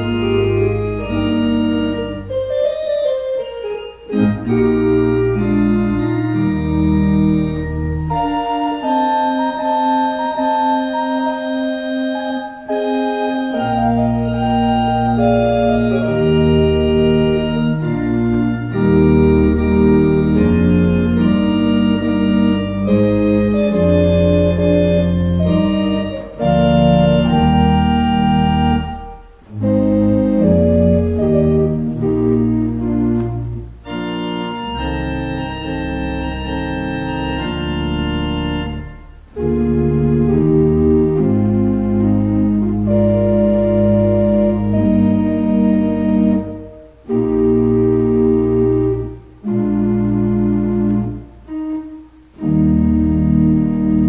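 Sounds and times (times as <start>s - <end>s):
low bass notes: 0.0s - 54.0s
organ chords: 0.0s - 54.0s.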